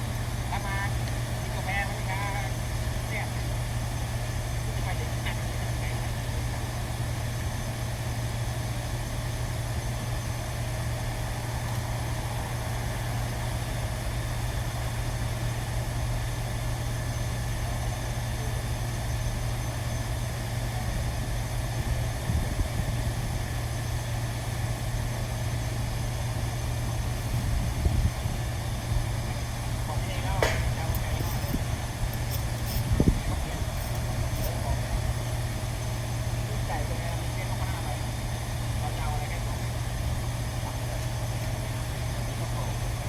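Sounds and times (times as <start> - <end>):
machinery humming: 0.0 - 43.0.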